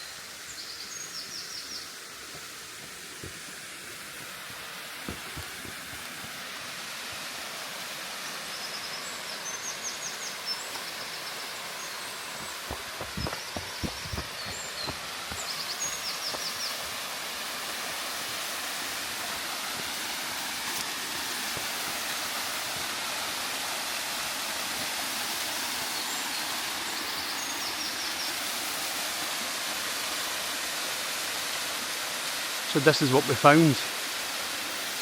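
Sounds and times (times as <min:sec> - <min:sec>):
small waterfall rushing: 0:00.0 - 0:35.0.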